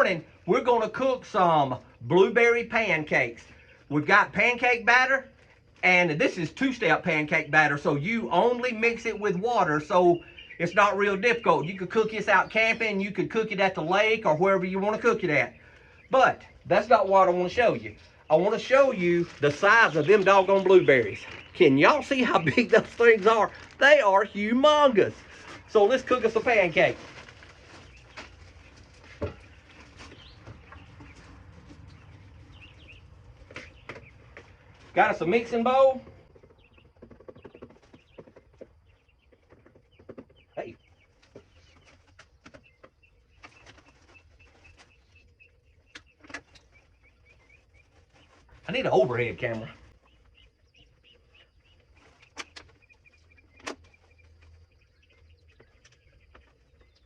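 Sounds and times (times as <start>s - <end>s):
faint bird chirps: 5.0s - 57.0s.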